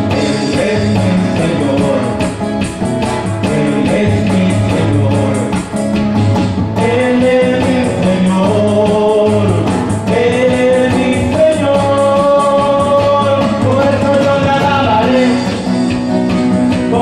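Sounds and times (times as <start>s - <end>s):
electronic drums beat: 0.0s - 17.0s
live band playing praise song: 0.0s - 17.0s.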